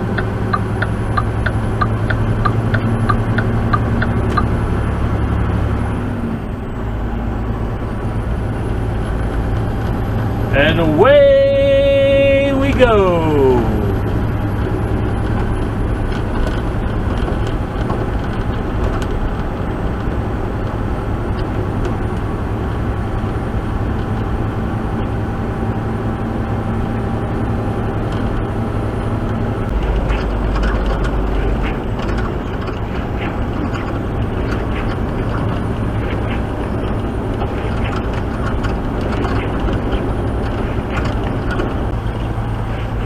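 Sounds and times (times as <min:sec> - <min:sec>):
truck engine accelerating: 0:00.0 - 0:43.0.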